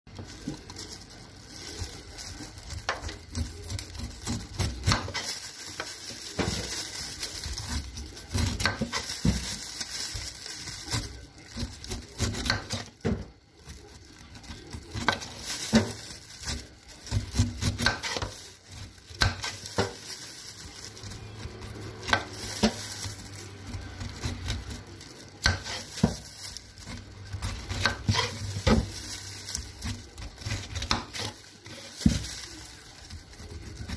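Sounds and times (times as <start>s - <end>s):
knife cutting pineapple rind: 0.2s - 33.9s.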